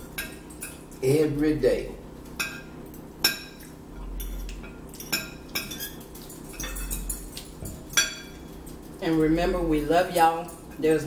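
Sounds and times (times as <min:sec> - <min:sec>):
forks clinking against plates: 0:00.0 - 0:01.0, 0:02.2 - 0:11.0.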